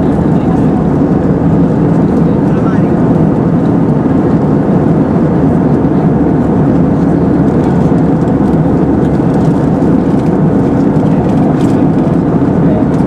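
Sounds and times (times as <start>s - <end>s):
airplane cabin drone: 0.0s - 13.0s.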